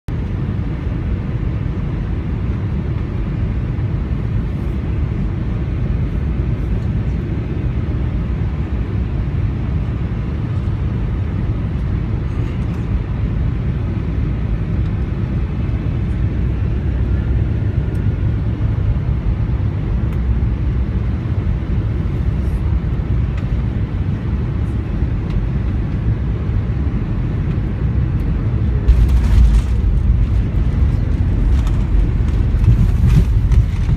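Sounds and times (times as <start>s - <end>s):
airliner cabin rumble: 0.1s - 33.9s.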